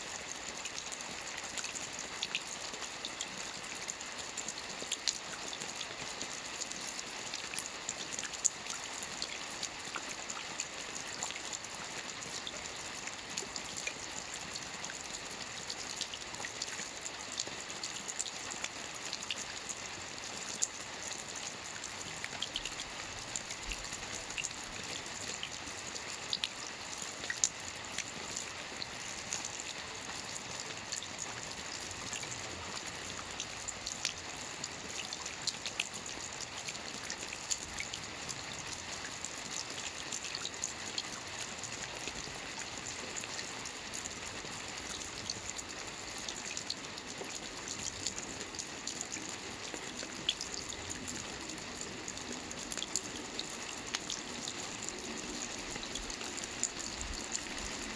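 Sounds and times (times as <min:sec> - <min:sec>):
soft rain on a roof: 0:00.0 - 0:57.9.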